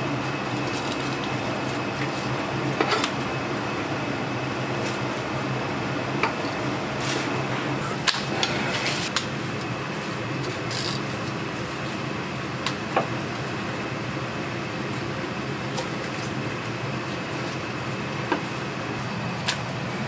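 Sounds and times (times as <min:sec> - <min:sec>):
fan-like hum: 0:00.0 - 0:20.0.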